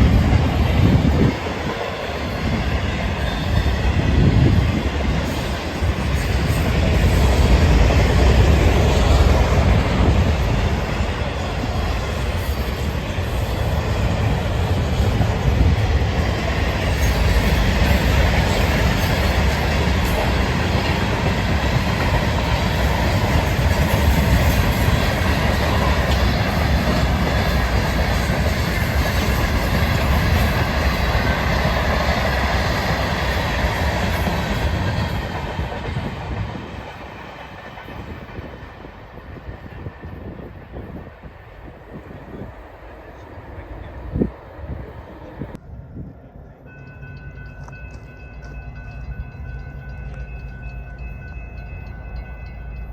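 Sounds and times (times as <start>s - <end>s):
train wheels on track: 0.0s - 52.9s.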